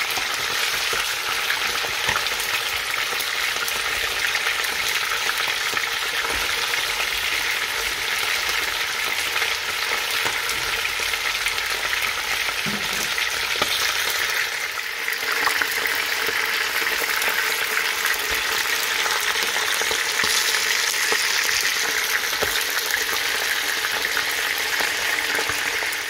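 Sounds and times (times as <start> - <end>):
meat frying in oil: 0.0 - 26.0.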